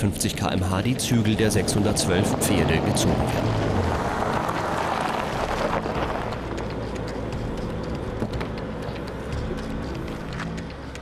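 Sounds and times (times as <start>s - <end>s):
road noise: 0.0s - 11.0s
car engine at speed: 0.1s - 11.0s.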